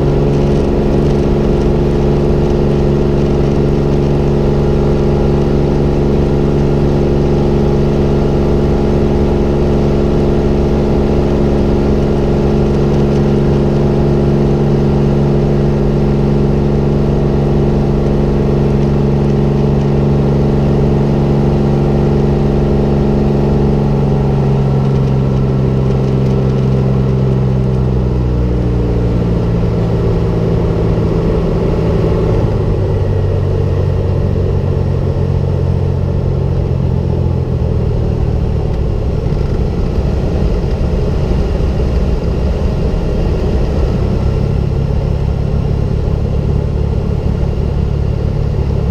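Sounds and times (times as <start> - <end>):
airplane engine and propeller: 0.0 - 48.9.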